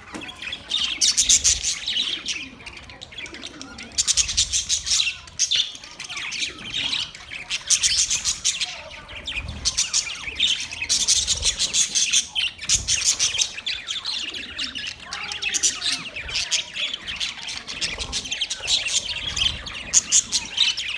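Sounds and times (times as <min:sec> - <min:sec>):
budgerigars chirping: 0:00.2 - 0:20.9.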